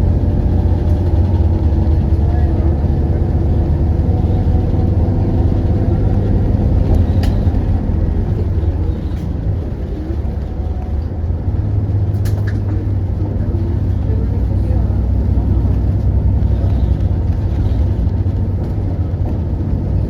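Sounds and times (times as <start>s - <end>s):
coach engine droning: 0.0s - 20.0s.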